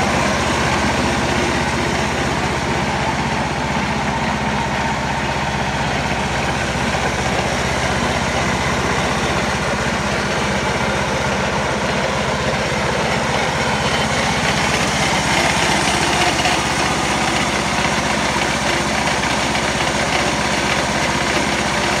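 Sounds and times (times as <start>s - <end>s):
small engine idling: 0.0s - 22.0s.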